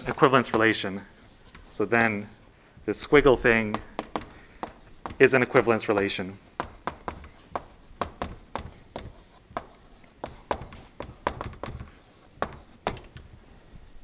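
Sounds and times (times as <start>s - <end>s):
chalk tapping on chalkboard: 0.0s - 2.5s, 3.5s - 13.2s.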